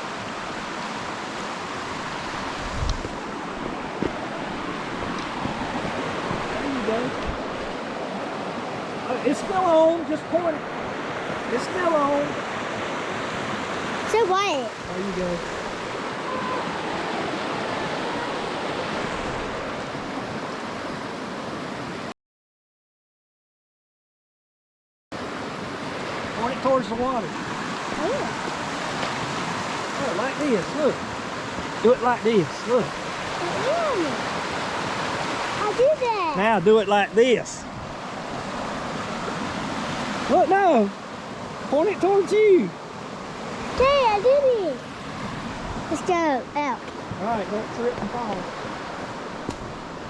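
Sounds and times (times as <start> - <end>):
creek rushing over rocks: 0.0 - 22.1, 25.2 - 50.0.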